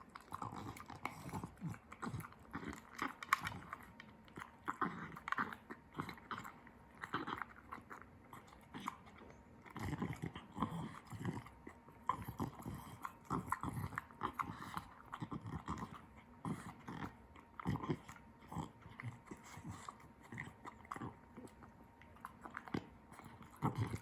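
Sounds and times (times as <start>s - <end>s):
puppy chewing and gnawing: 0.0s - 24.0s.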